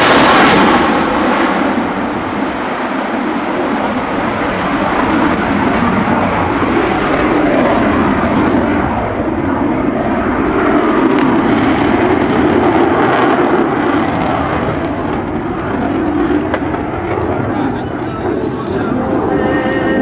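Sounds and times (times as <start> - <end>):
jet engines roaring in afterburner: 0.0 - 20.0.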